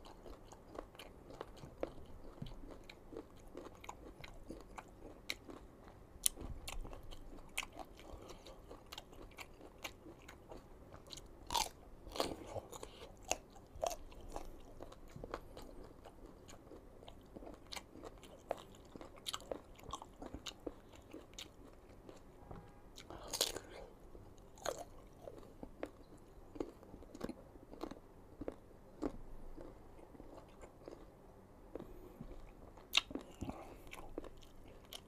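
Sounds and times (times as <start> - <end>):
crunching and chewing mango: 0.0 - 22.4, 23.0 - 35.0.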